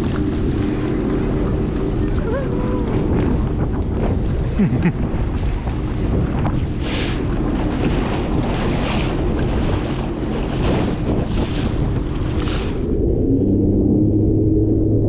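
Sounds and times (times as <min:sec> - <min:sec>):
water surging: 0:00.0 - 0:13.0
watercraft engine running: 0:00.0 - 0:15.0
wind rushing on microphone: 0:00.0 - 0:15.0.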